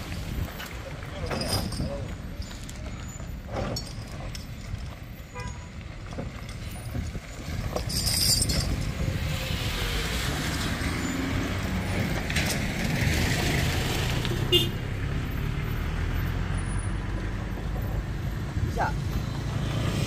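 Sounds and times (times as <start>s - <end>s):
road vehicle engine running: 0.0s - 20.0s.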